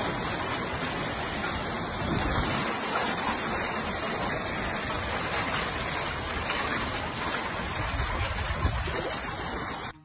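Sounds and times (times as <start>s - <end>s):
hail and rain falling hard: 0.0s - 10.0s.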